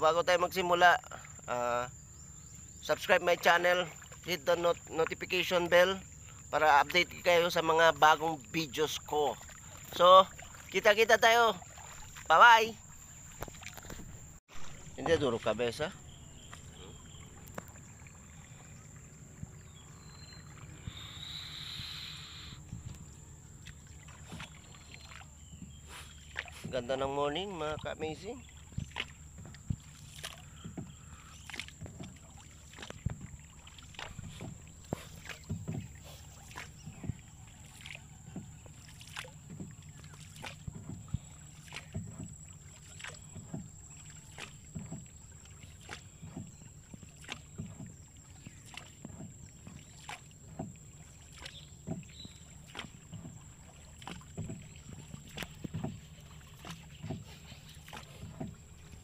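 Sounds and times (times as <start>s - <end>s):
paddle strokes in water: 0.0s - 59.0s.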